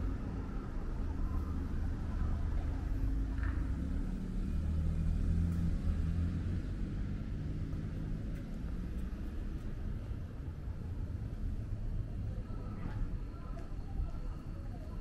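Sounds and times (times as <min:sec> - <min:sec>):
vehicle engine rumbling: 0:00.0 - 0:13.3.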